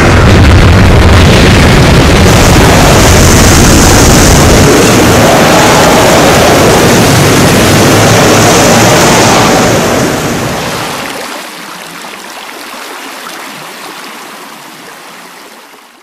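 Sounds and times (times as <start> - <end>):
rushing floodwater roar: 0.0 - 16.0.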